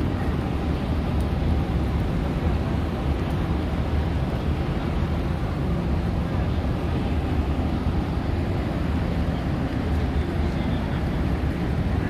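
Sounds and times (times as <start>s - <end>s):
crowd walking and murmuring: 0.0s - 12.0s.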